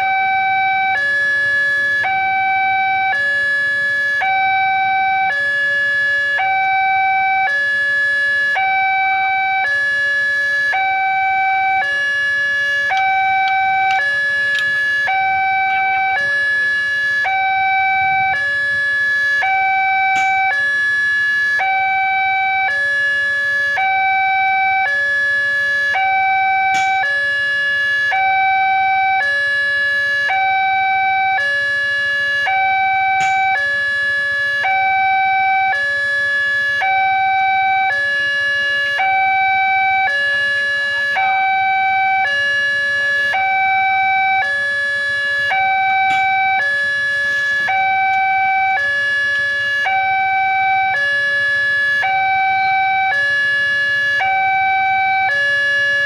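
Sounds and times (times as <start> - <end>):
two-tone level crossing alarm: 0.0 - 56.0.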